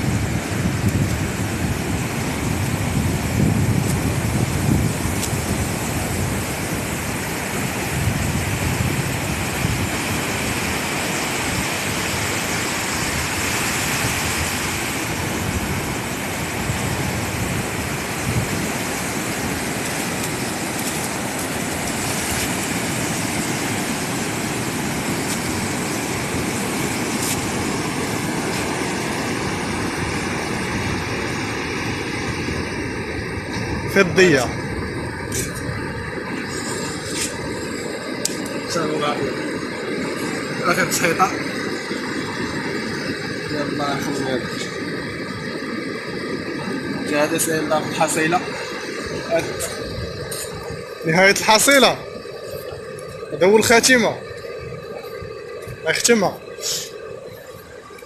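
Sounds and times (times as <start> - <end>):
sea surf on shore: 0.0 - 58.0
wind buffeting microphone: 0.0 - 58.0.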